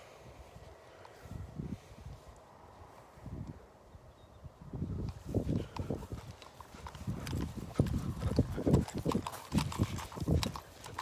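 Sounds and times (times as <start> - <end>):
footsteps through long grass: 0.0 - 3.4, 4.9 - 11.0.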